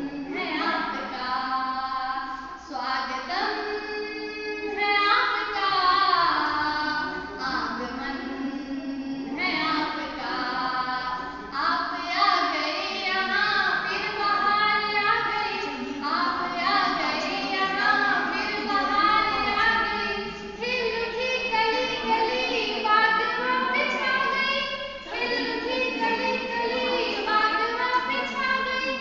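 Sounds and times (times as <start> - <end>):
young woman singing unaccompanied: 0.0 - 8.4, 9.2 - 29.0.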